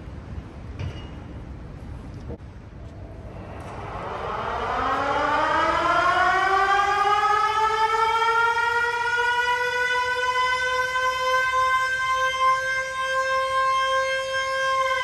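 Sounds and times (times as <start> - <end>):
motor-driven siren wailing: 3.0 - 15.0.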